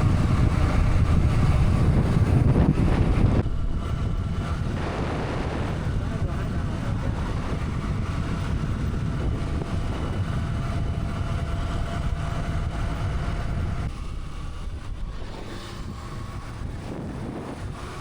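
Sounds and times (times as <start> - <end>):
motorcycle riding: 0.0 - 18.0
wind on microphone: 0.0 - 18.0.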